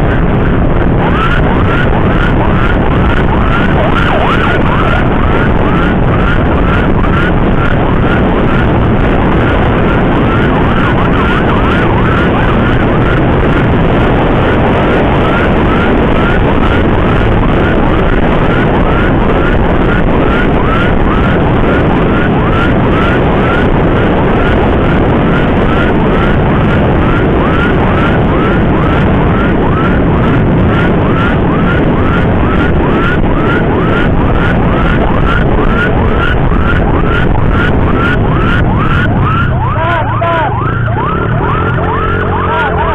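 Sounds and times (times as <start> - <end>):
emergency siren yelping: 0.0 - 42.9
motorcycle road and wind rush: 0.0 - 42.9.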